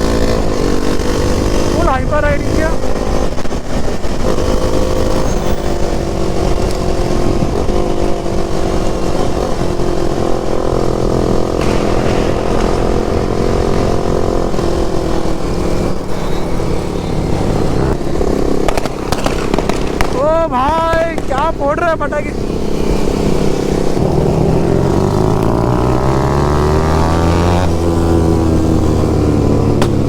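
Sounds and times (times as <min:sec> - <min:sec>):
motorcycle engine running: 0:00.0 - 0:30.0
wind noise rumble: 0:00.0 - 0:30.0.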